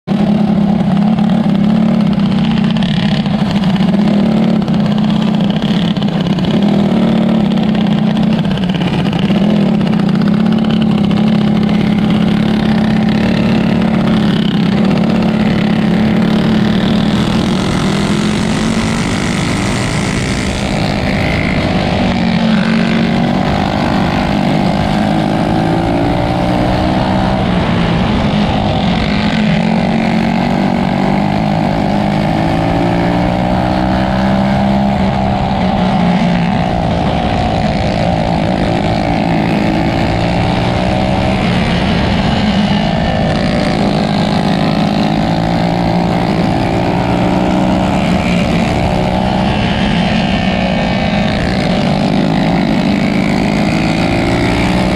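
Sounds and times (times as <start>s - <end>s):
other kart engines: 0.0s - 54.9s
racing kart engine running hard: 0.0s - 54.9s.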